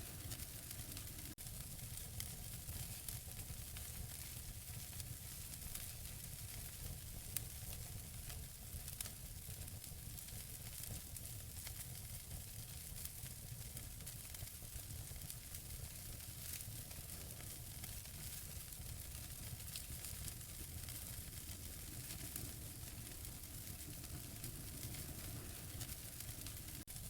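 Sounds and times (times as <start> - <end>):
wood fire burning: 0.0 - 27.0.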